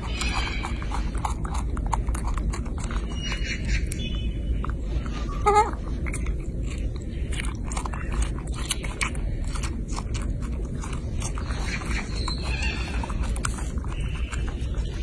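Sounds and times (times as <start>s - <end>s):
monkey chewing fruit: 0.0s - 15.0s.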